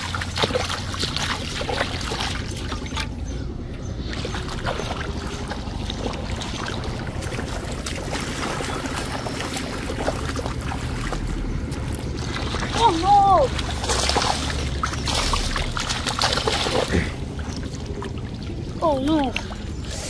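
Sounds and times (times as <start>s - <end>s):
wading through muddy water: 0.0s - 20.0s.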